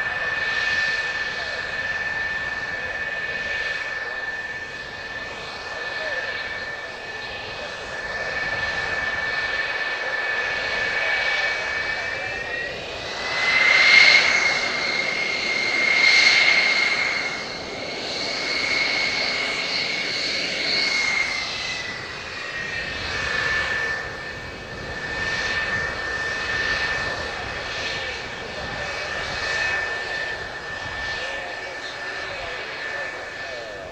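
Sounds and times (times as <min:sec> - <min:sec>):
jet engine whine: 0:00.0 - 0:33.9.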